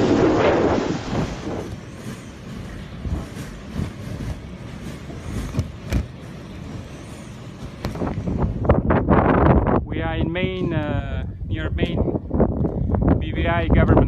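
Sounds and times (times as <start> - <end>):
outdoor rumble: 0.0 - 14.0
wind buffeting microphone: 0.0 - 14.0.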